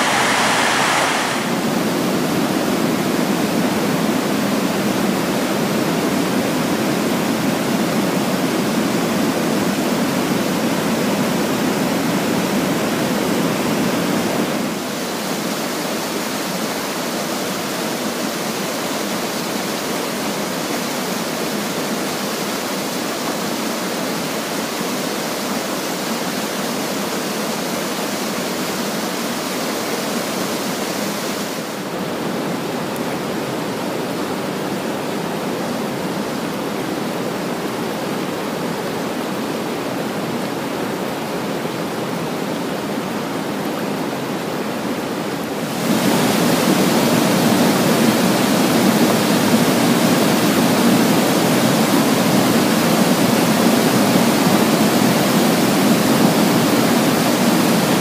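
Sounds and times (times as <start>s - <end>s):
water rushing down cascades: 0.0s - 58.0s.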